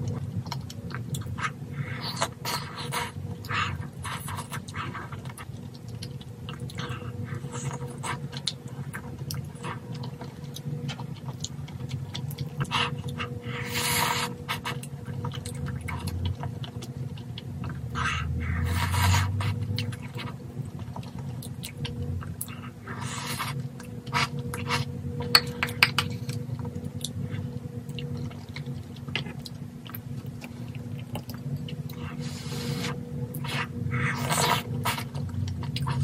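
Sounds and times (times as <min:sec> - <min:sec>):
chewing: 0:00.0 - 0:36.0
steady low hum: 0:00.0 - 0:36.0.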